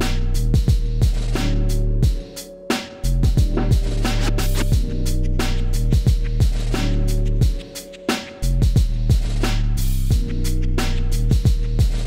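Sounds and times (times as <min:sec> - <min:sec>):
background music with bass and beat: 0:00.0 - 0:12.0
crisp hi-hat or snare hits: 0:00.0 - 0:12.0.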